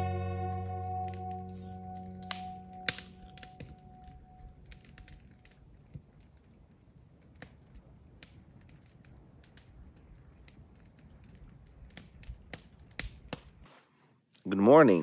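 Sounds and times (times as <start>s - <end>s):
campfire crackling and popping: 0.0s - 13.8s.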